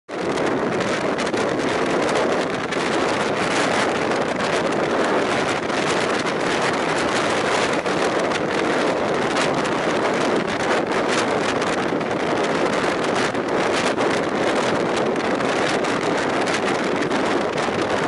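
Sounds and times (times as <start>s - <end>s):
train wheels rumbling on rails: 0.1s - 18.0s
wind buffeting microphone: 0.1s - 18.0s.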